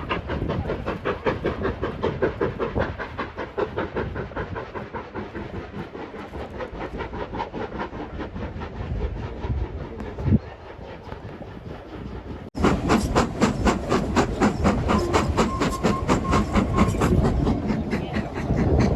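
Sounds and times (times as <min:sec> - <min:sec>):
train rhythmic clatter: 0:00.0 - 0:18.9.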